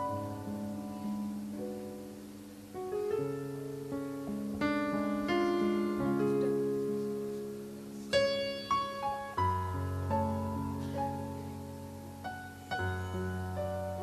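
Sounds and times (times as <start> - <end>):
electronic keyboard piano chords: 0.0 - 14.0.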